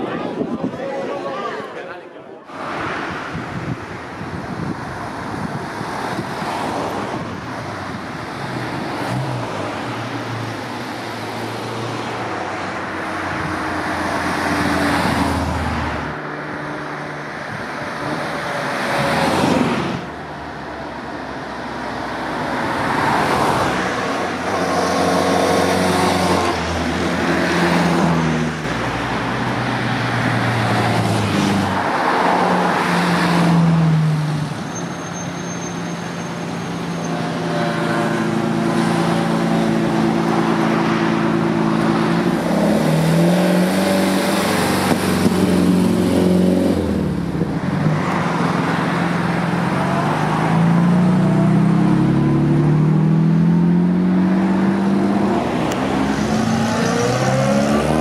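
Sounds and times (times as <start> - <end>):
cars driving past: 2.5 - 58.0.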